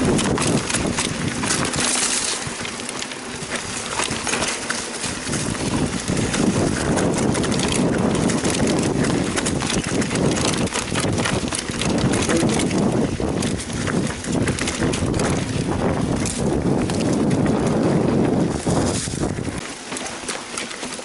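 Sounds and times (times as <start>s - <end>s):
wind on microphone: 0.0s - 2.8s, 3.4s - 19.7s
bike rattling: 0.0s - 21.0s
tyres crunching over gravel: 0.0s - 21.0s.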